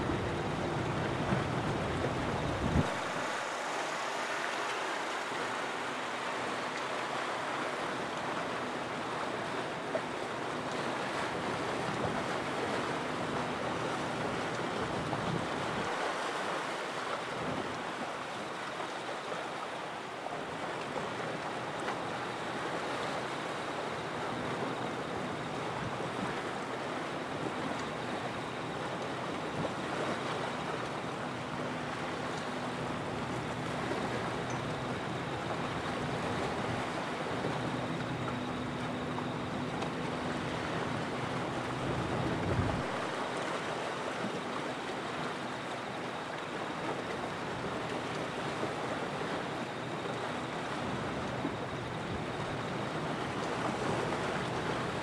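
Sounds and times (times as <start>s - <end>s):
waves washing on shore: 0.0s - 55.0s.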